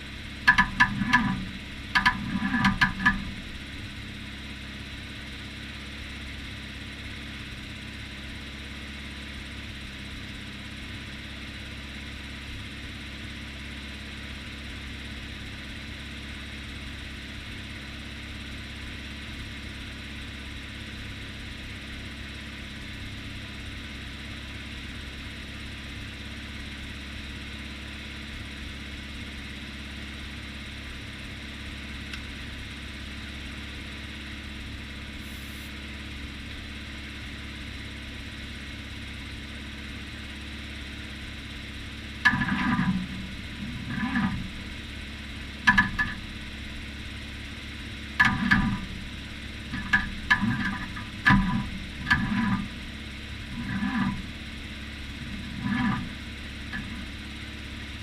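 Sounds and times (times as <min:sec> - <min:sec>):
backhoe engine idling: 0:00.0 - 0:58.0.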